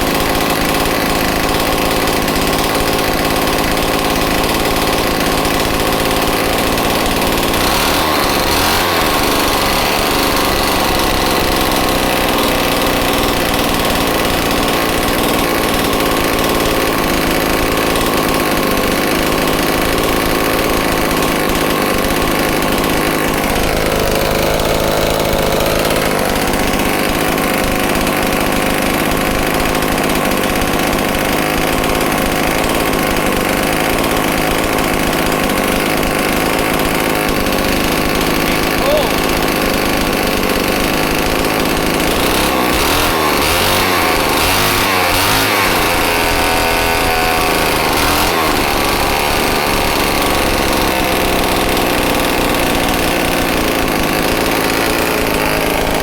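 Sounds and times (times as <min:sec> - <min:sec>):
chainsaw engine idling: 0:00.0 - 0:56.0.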